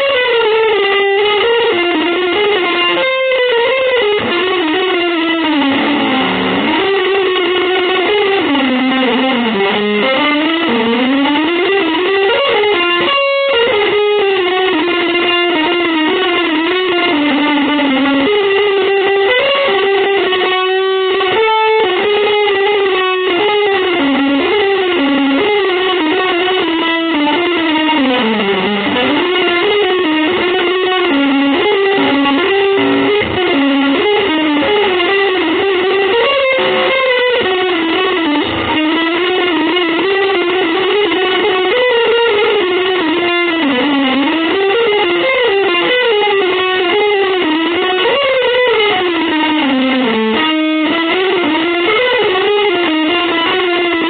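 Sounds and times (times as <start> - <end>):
electric guitar melody with bends: 0.0 - 54.0.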